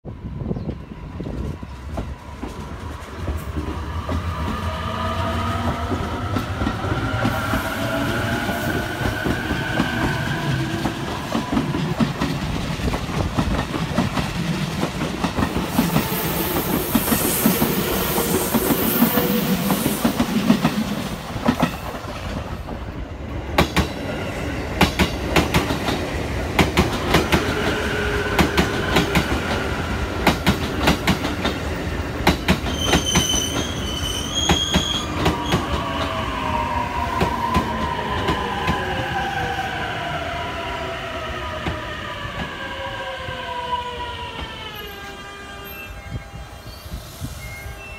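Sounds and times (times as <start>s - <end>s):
train wheel rumble: 0.2s - 43.4s.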